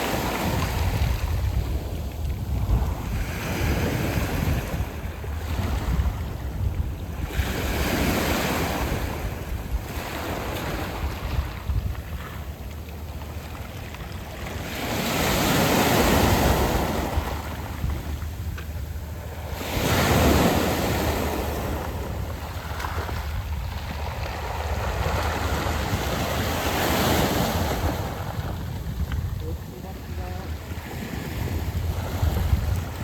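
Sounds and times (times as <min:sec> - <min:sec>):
waves washing over pebbles: 0:00.0 - 0:33.0
wind rumble on microphone: 0:00.0 - 0:33.0.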